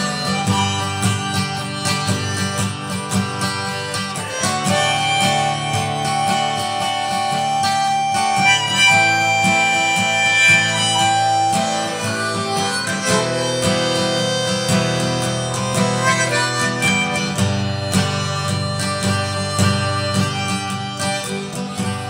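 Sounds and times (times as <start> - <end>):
acoustic guitar strumming: 0.0 - 22.0
harmonica playing: 0.0 - 22.0.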